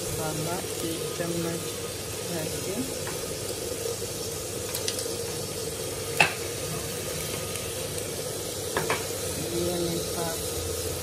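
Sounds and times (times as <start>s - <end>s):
food sizzling in a clay pot: 0.0s - 11.0s.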